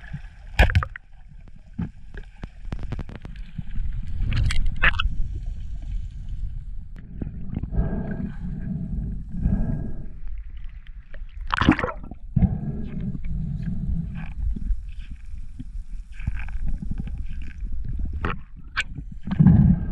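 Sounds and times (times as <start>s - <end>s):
water sloshing and gurgling: 0.0s - 19.9s
steady low rumble: 1.2s - 11.2s, 12.0s - 19.9s.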